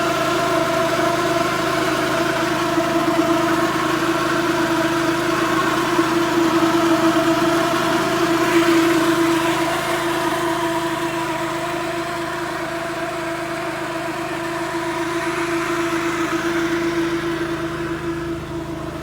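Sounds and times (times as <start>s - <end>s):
ride-on mower engine: 0.0s - 19.0s.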